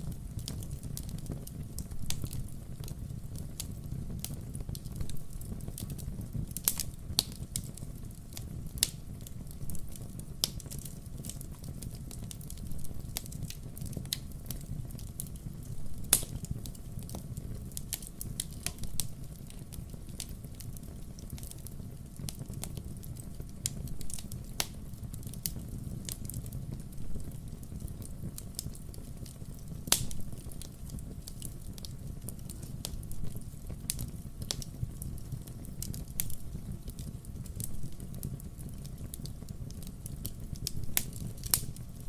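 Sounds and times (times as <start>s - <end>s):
low fire rumble: 0.0s - 42.0s
wood fire crackling: 0.0s - 42.0s.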